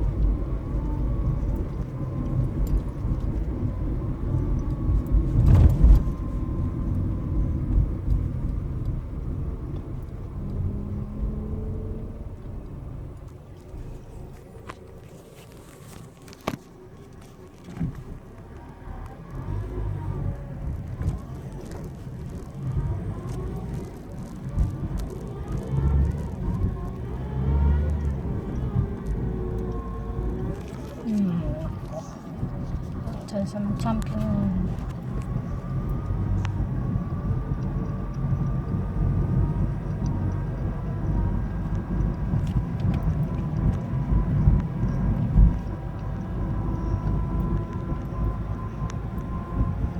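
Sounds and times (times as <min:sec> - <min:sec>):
car engine and road rumble: 0:00.0 - 0:49.9
faint transmission whine: 0:00.0 - 0:49.9.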